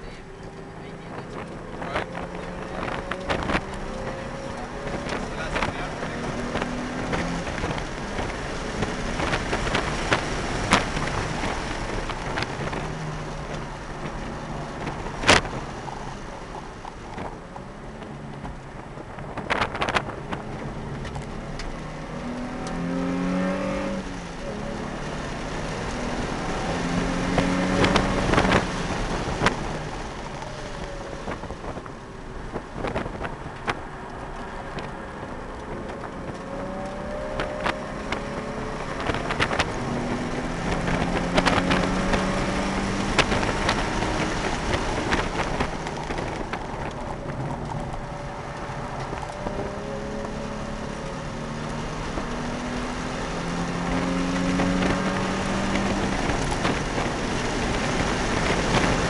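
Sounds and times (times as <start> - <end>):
car engine revving through gears: 0.0 - 59.0
tyre and wind noise: 0.0 - 59.0.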